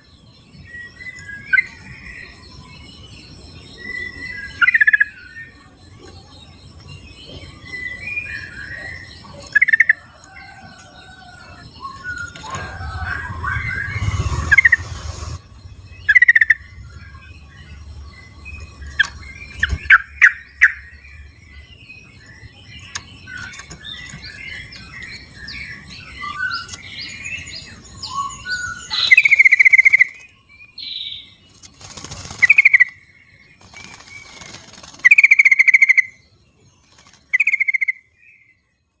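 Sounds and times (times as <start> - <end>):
quiet bird chattering: 0.8 - 38.6
bulbuls calling: 1.2 - 36.2.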